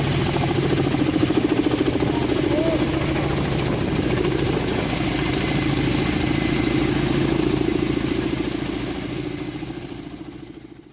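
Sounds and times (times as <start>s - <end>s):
helicopter engines and rotors: 0.0s - 10.9s.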